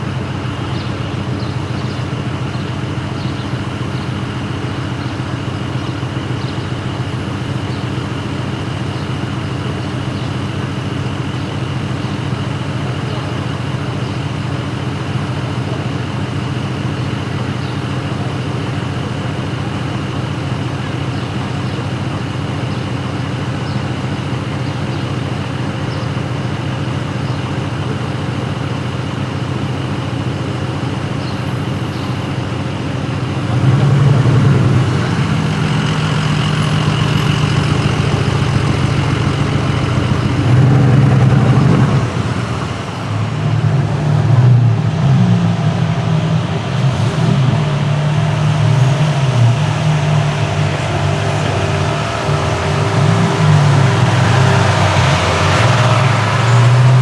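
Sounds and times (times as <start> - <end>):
deep engine sound: 0.0 - 57.0
street traffic engines: 0.0 - 57.0.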